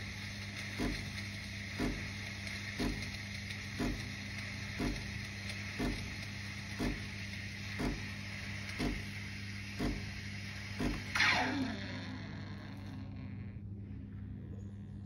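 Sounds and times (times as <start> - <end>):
steam wand hissing into milk: 0.0 - 12.8
machine low hum: 0.0 - 15.0.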